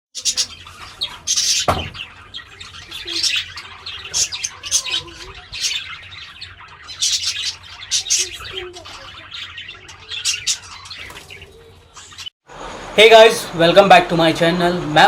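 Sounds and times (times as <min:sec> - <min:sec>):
budgerigars chirping: 0:00.2 - 0:12.3.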